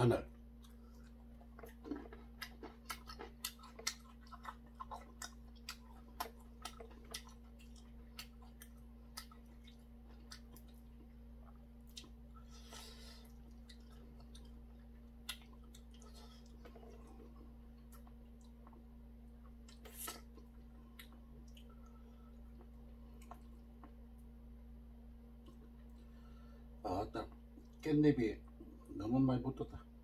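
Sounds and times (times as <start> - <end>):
steady low hum: 0.0 - 30.0
chewing and lip smacking: 0.6 - 24.3, 25.4 - 26.1.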